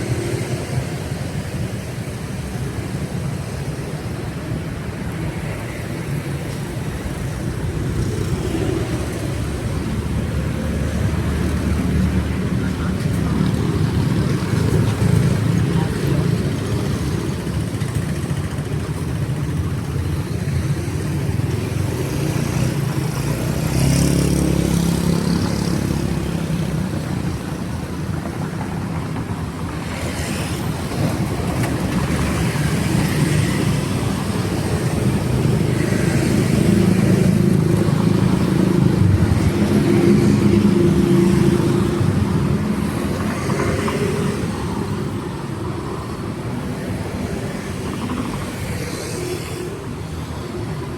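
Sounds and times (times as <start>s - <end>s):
cars and motorcycles passing: 0.0s - 50.9s.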